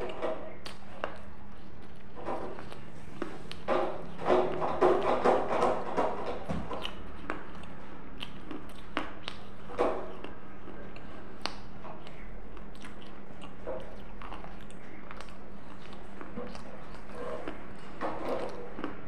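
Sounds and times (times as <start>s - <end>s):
person chewing food: 0.0s - 19.0s
steady low hum: 0.0s - 19.0s.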